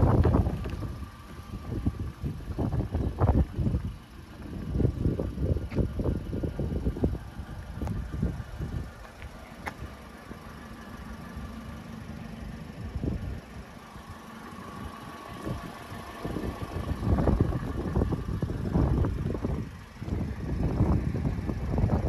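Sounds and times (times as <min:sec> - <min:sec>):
wind rumbling on microphone: 0:00.0 - 0:10.0, 0:12.8 - 0:22.0
car engine idling: 0:00.0 - 0:22.0.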